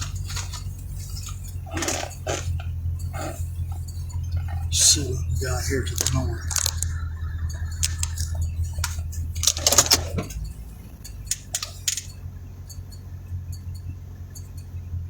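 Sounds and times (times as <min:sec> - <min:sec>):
equipment clicking and clinking: 0:00.0 - 0:12.2
low steady hum: 0:00.0 - 0:15.0.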